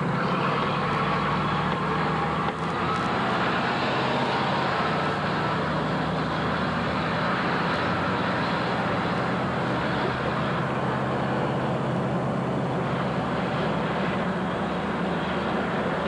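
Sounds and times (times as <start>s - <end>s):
fire engine drone: 0.0s - 16.0s
road and wind noise: 0.0s - 16.0s.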